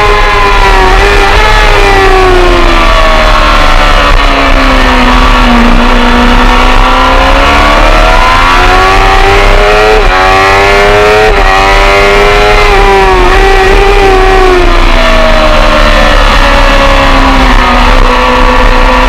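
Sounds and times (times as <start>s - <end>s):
racing motorcycle engine revving: 0.0s - 19.0s.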